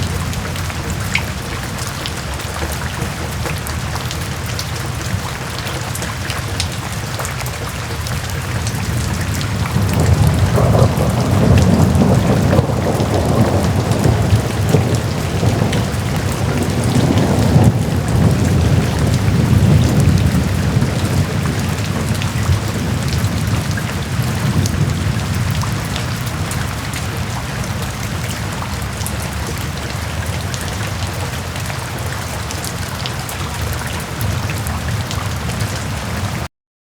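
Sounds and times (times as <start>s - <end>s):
low rumble of thunder: 0.0s - 6.0s, 8.1s - 36.5s
rain falling: 0.0s - 36.5s.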